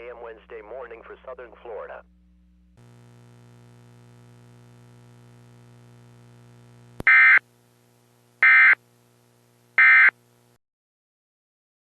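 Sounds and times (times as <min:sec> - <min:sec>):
faint steady hum: 0:00.0 - 0:10.6.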